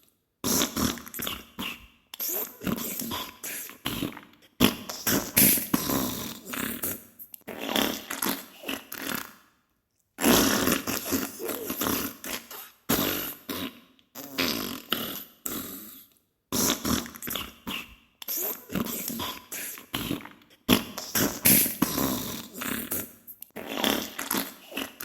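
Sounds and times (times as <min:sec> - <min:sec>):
fart bursts: 0:00.4 - 0:03.1, 0:04.0 - 0:09.3, 0:10.2 - 0:16.0, 0:16.6 - 0:19.0, 0:20.0 - 0:24.9.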